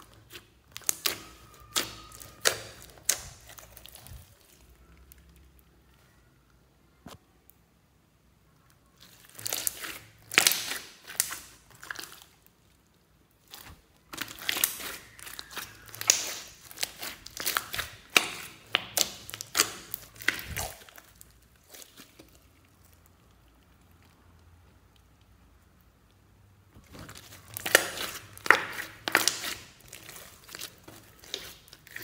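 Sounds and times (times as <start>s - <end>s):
hands kneading sticky slime: 0.0s - 6.3s, 8.8s - 32.0s
slime wet crackling and popping: 0.0s - 7.6s, 8.6s - 32.0s.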